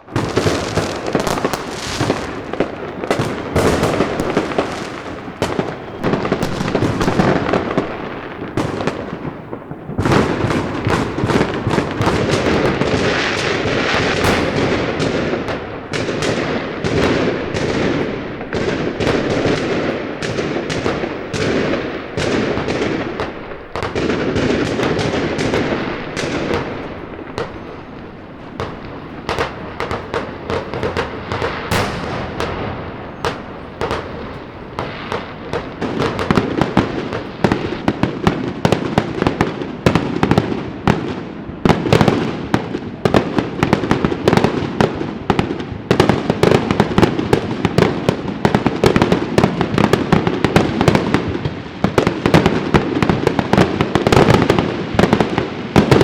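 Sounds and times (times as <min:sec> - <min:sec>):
fireworks cracking and banging: 0:00.0 - 0:56.0.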